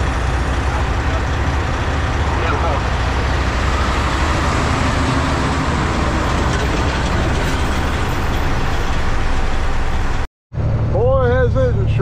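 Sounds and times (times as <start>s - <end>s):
wind and tyre noise: 0.0s - 11.0s
tractor-trailer passing: 0.0s - 12.0s
truck engine drone: 0.0s - 12.0s.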